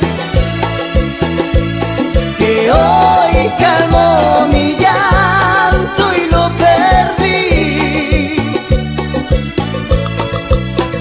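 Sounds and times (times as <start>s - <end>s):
bass line: 0.0s - 11.0s
melody instruments: 0.0s - 11.0s
percussion beat: 0.0s - 11.0s.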